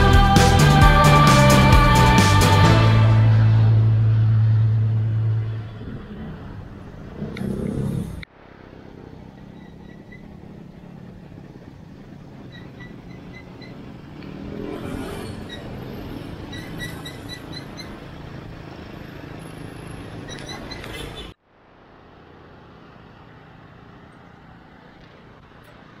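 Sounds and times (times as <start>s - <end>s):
road traffic rumble: 0.0s - 26.0s
vehicle passing: 1.5s - 26.0s.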